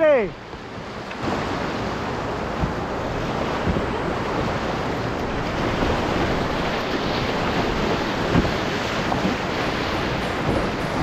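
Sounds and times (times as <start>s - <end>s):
whitewater rushing: 0.0s - 11.0s
wind buffeting microphone: 0.1s - 11.0s.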